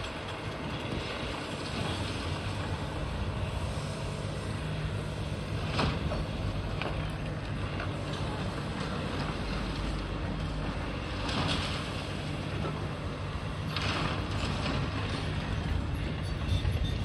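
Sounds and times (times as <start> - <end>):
diesel excavator engines running: 0.0 - 17.0.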